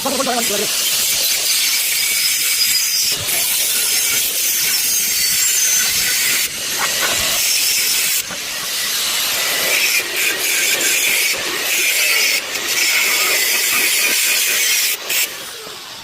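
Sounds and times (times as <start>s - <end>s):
arc welding crackling hiss: 0.0s - 16.0s.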